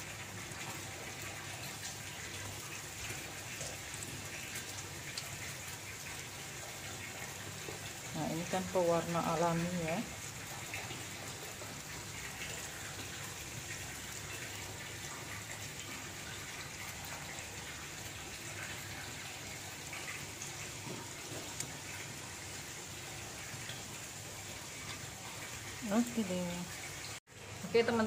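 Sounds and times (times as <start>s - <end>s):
doughnuts frying in oil: 0.0s - 28.0s.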